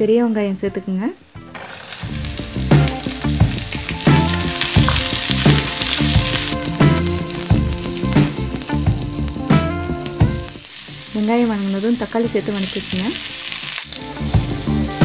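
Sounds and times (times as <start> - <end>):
onions sizzling in hot oil: 1.2 - 15.0.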